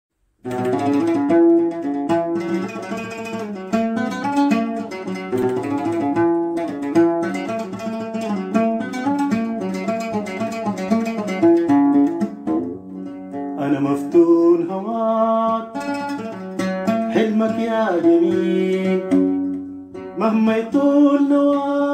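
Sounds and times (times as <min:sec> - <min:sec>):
solo oud plucked melody: 0:00.4 - 0:21.9.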